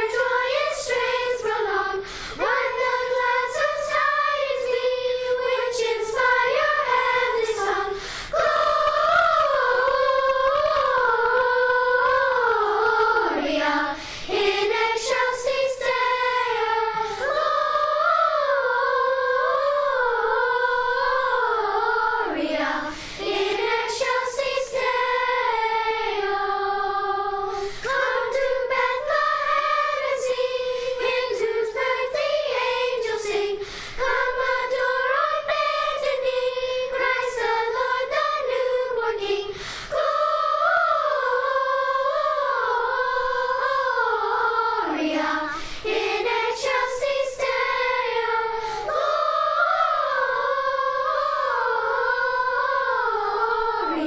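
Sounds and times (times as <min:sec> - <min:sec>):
youth choir singing: 0:00.0 - 0:54.0.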